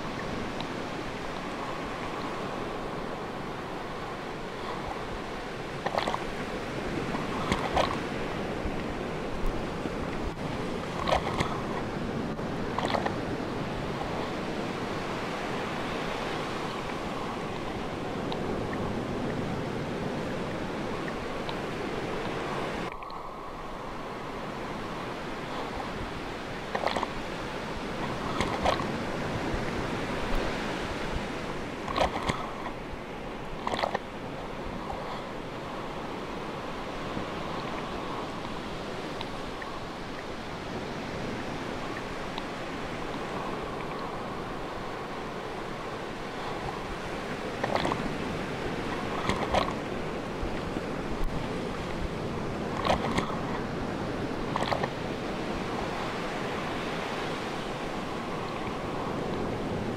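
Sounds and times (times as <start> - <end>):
sea waves washing: 0.0 - 59.9.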